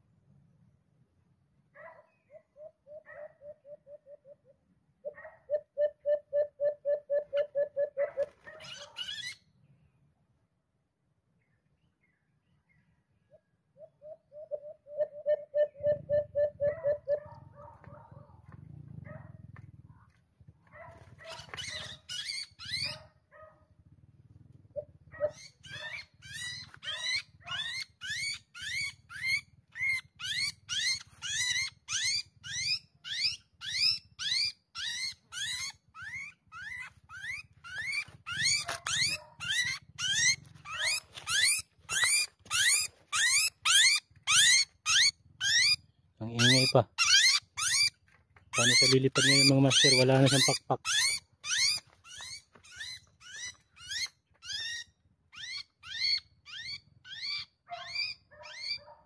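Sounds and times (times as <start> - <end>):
small bird distress calls: 1.8 - 10.0, 11.8 - 18.6, 20.9 - 59.0.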